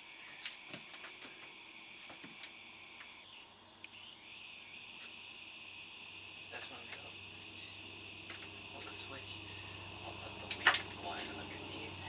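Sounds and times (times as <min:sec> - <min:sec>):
faint high-pitched chirring: 0:00.0 - 0:12.0.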